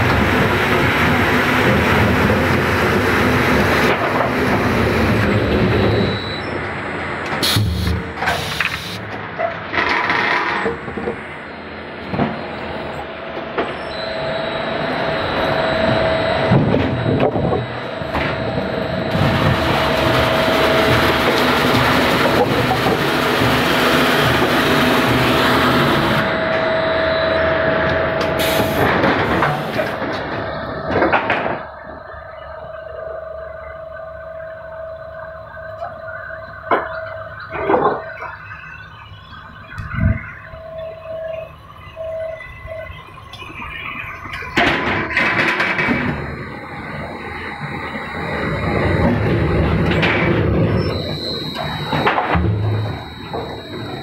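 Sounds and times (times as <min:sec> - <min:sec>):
high steady whine: 0:00.0 - 0:54.0
industrial machinery humming: 0:00.0 - 0:54.0.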